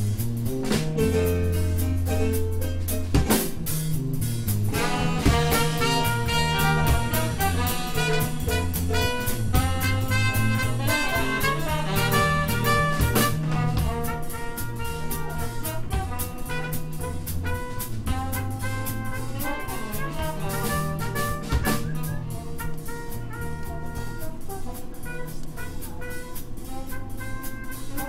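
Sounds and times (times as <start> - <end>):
drum kit cymbals: 0.0 - 28.0
walking bass line: 0.0 - 28.0
trumpet and trombone melody: 4.7 - 28.0.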